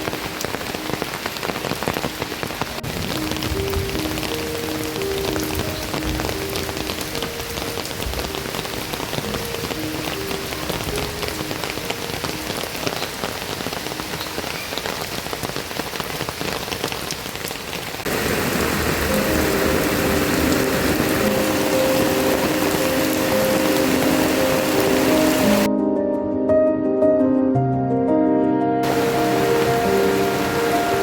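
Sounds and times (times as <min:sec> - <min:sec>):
soft melody of held notes: 0:00.0 - 0:15.1, 0:18.6 - 0:31.0
steady rain falling: 0:00.0 - 0:25.7, 0:28.8 - 0:31.0.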